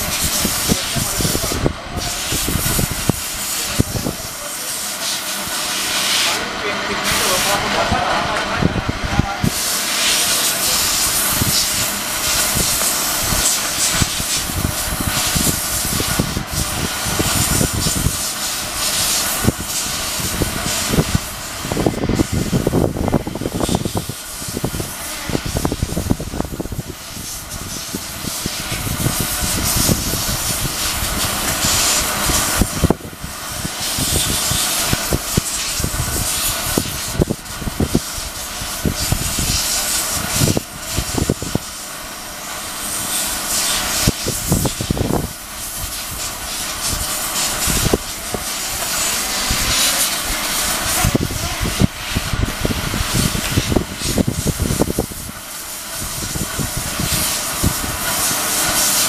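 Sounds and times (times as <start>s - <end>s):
loud rushing hiss: 0.0s - 59.0s.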